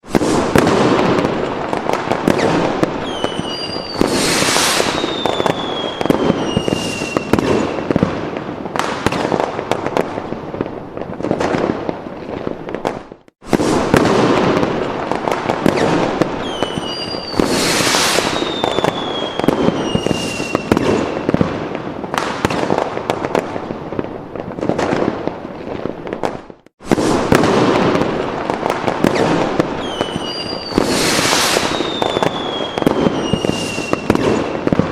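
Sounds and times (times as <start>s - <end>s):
fireworks whistles: 0.0s - 23.8s, 25.8s - 34.9s
fireworks bangs and crackles: 0.0s - 34.9s.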